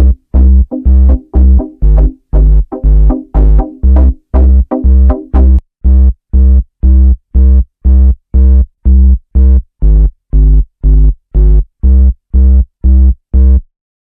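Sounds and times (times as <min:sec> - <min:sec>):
low synthesizer notes repeating: 0:00.0 - 0:13.6.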